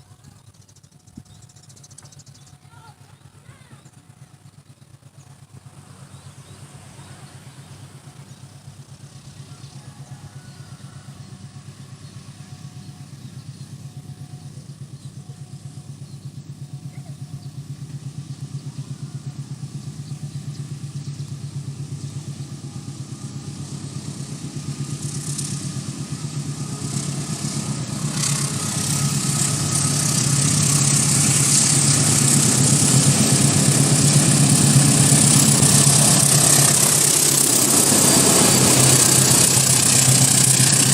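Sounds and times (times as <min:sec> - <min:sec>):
train engine hum: 0:00.0 - 0:40.9
wheel and rail noise: 0:00.0 - 0:40.9.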